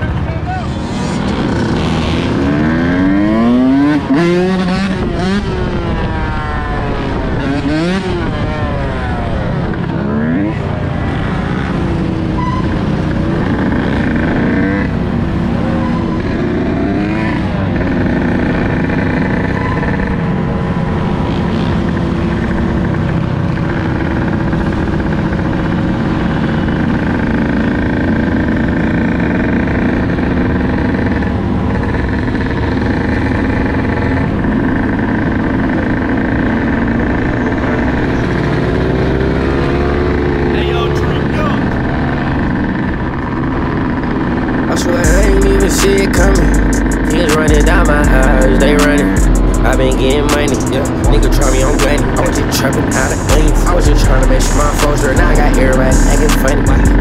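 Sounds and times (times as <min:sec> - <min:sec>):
dirt bike engine revving: 0:00.0 - 0:57.0
other dirt bikes riding: 0:00.0 - 0:57.0.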